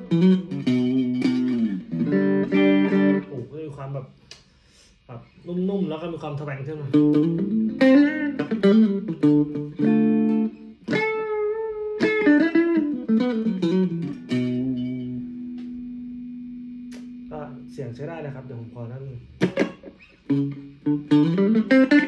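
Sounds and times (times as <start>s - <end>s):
electric guitar picked notes: 0.0s - 3.5s, 6.9s - 22.0s.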